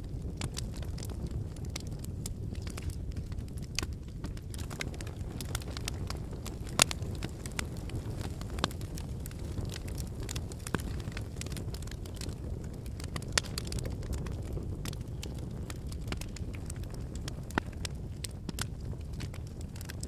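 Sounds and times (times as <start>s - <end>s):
logs crackling and popping: 0.0s - 20.0s
low rush of flame: 0.0s - 20.0s.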